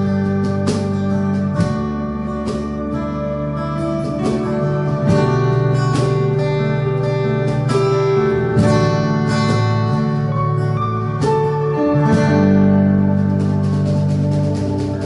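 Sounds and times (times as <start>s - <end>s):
held bass notes: 0.0s - 15.0s
strummed acoustic guitar: 0.0s - 15.0s.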